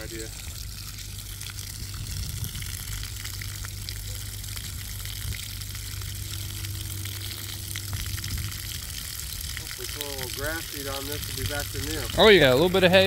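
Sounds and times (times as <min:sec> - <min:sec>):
low rumble: 0:00.0 - 0:13.0
water splashing from hydrant: 0:00.0 - 0:13.0.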